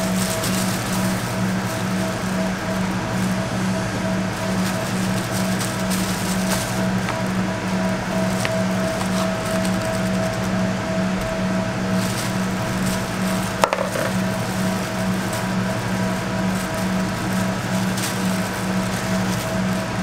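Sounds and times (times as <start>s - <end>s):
low pulsing machine hum: 0.0s - 20.0s.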